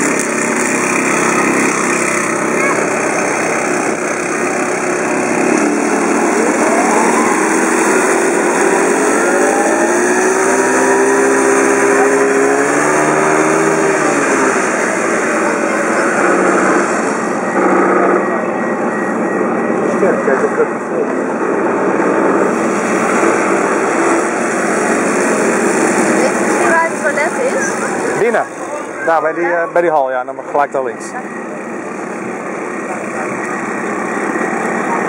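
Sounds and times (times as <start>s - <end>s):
small petrol engine revving: 0.0s - 19.2s, 19.8s - 35.0s.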